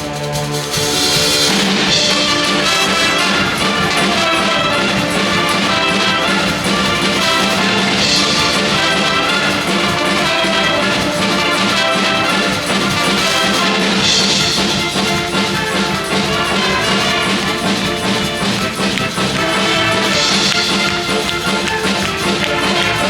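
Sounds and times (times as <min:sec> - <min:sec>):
drums keeping steady beat: 0:00.0 - 0:23.0
trumpets and trombones: 0:00.0 - 0:23.0
wind band playing medley: 0:00.0 - 0:23.0.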